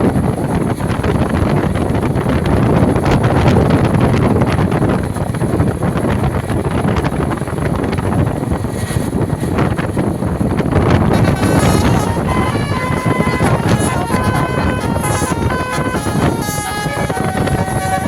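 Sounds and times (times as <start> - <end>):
bus rumble: 0.0 - 18.0
wind buffeting microphone: 0.0 - 18.0.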